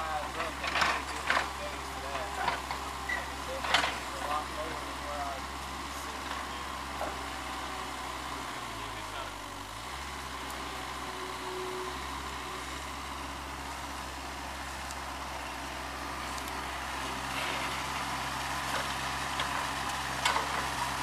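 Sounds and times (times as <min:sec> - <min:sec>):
mini excavator diesel engine: 0:00.0 - 0:21.0.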